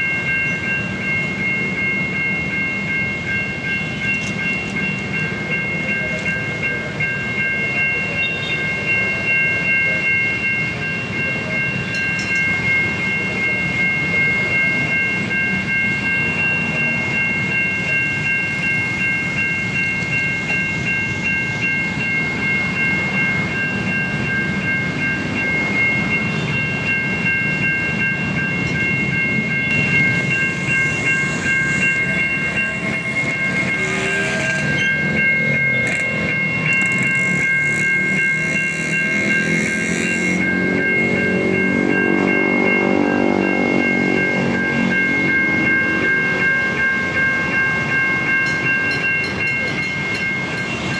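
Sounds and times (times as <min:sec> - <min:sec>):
level crossing warning siren: 0:00.0 - 0:50.9.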